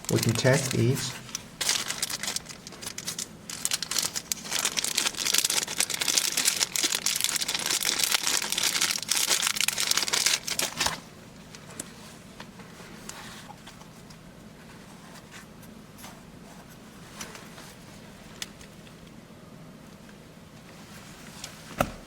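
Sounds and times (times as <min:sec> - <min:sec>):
crinkling and rustling: 0:00.0 - 0:19.0.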